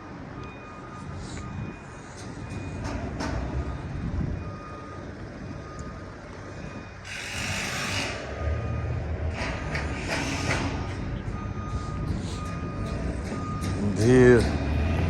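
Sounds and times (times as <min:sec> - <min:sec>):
diesel engine rumbling: 0:00.0 - 0:15.0
vehicle backup alarm beeping: 0:00.1 - 0:15.0.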